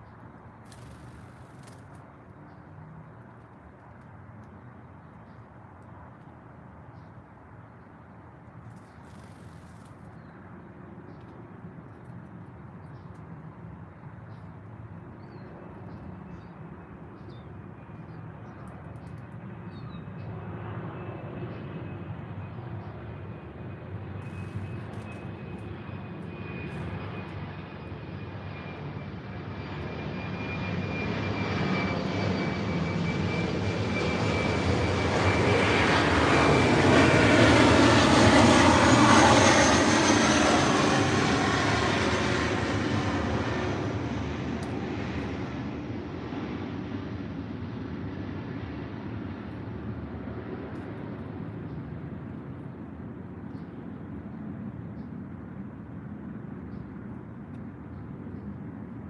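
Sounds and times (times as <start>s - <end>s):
aircraft engine rumble: 0.0s - 59.0s.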